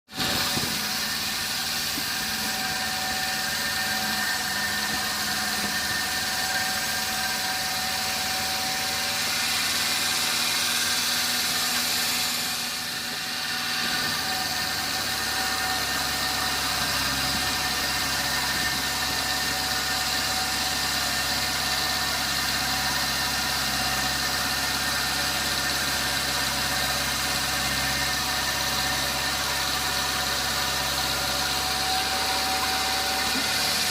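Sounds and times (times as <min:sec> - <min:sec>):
sawmill machinery whining drone: 0:00.1 - 0:33.9.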